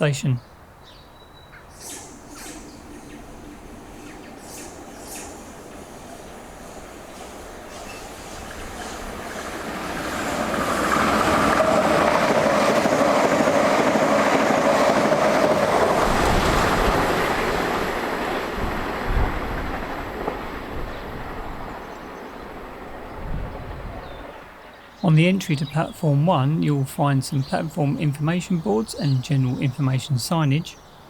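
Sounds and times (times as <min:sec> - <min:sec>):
electric train passing: 0:01.5 - 0:31.0.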